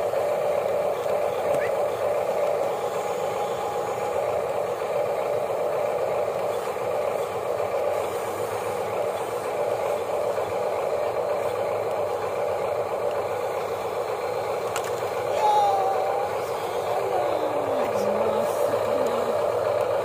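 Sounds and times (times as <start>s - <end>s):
electric gear motors whirring: 0.0s - 20.0s.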